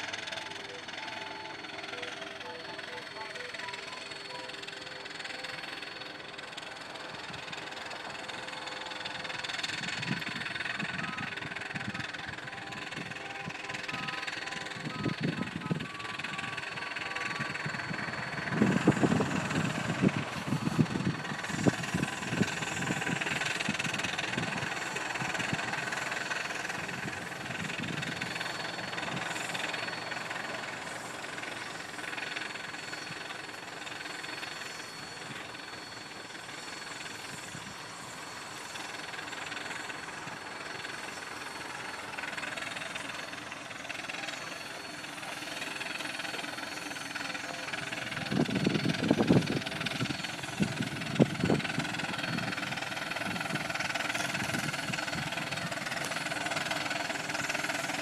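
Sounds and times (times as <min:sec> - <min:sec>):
distant steam engine chuffing: 0:00.0 - 0:58.0.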